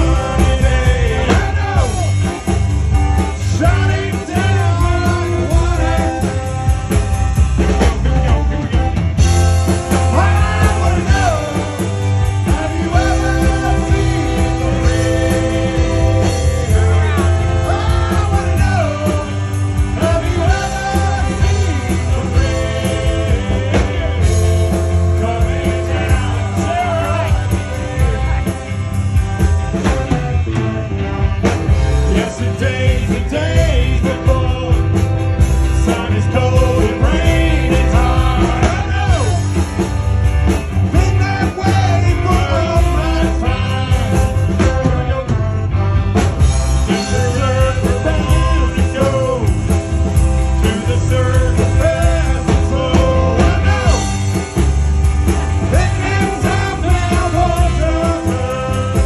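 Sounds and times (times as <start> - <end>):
men singing into microphones: 0.0 - 2.6, 3.2 - 7.0, 9.6 - 28.6, 32.0 - 39.8, 40.9 - 45.7, 46.7 - 54.8, 55.6 - 59.0
accordion: 0.0 - 59.0
drum kit beat: 0.0 - 59.0
tuba bass: 0.0 - 59.0.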